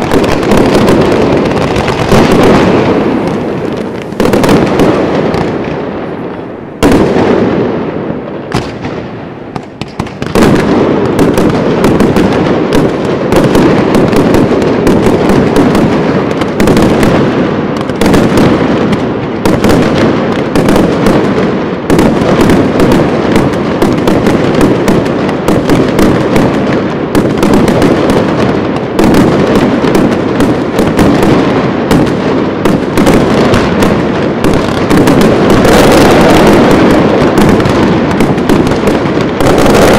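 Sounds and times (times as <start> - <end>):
fireworks explosions: 0.0 - 39.9.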